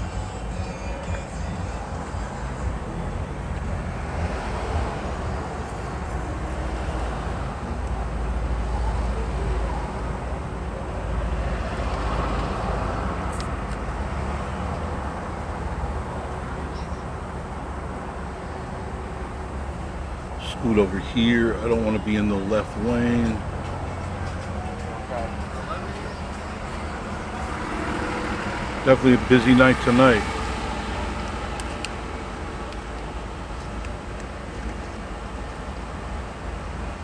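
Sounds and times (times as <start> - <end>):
busy street noise: 0.0 - 37.0
car engine and road rumble: 0.0 - 37.0.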